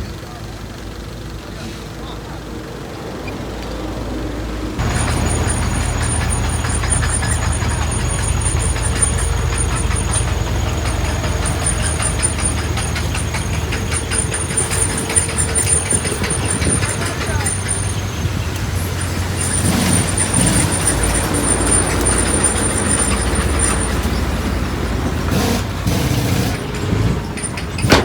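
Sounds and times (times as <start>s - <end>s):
heavy diesel engine droning: 0.0s - 28.0s.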